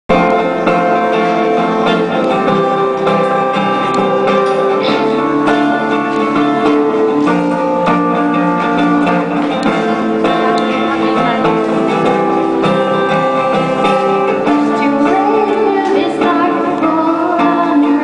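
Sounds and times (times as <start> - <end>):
acoustic guitar strumming chords: 0.1 - 18.0.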